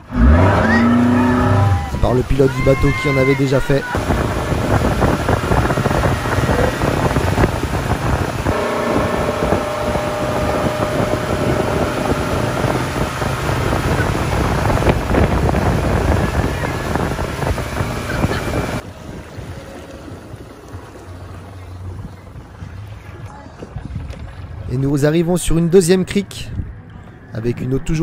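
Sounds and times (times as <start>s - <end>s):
motorboat engine running: 0.0s - 23.1s
churning wake water: 0.0s - 24.6s
wind buffeting microphone: 0.4s - 25.0s.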